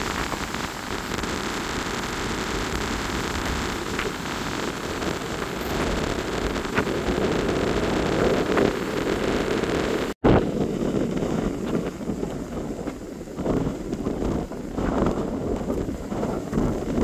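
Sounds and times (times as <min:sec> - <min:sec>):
heavy surf breaking: 0:00.0 - 0:17.0
strong wind buffeting microphone: 0:00.0 - 0:17.0.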